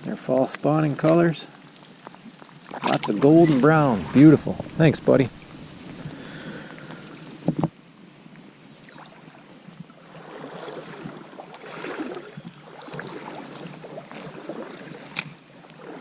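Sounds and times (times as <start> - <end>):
creek water running: 0.7 - 7.7, 8.8 - 16.0.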